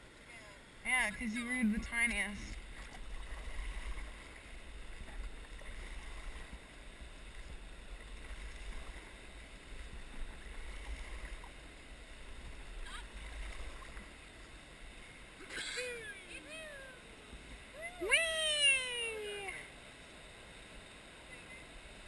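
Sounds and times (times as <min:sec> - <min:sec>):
river water rushing: 0:00.9 - 0:21.3.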